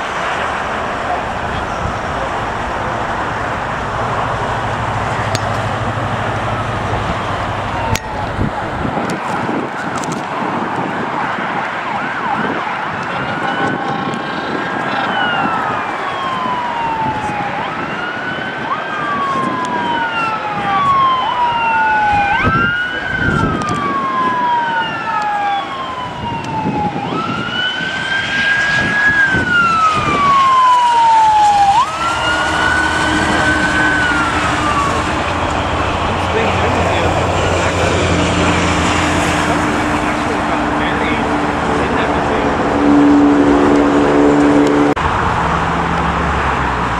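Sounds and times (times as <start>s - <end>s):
fire truck siren wailing: 0.0s - 46.9s
road traffic noise: 0.0s - 46.9s.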